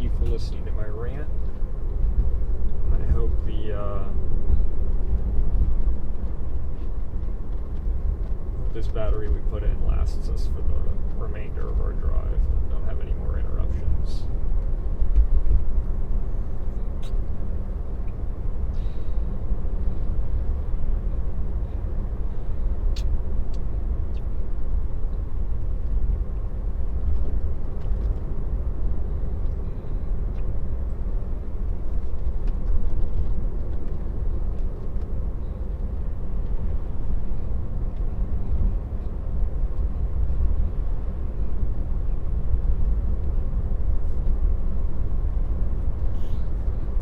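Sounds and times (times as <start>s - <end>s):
road and tyre rumble: 0.0s - 47.0s.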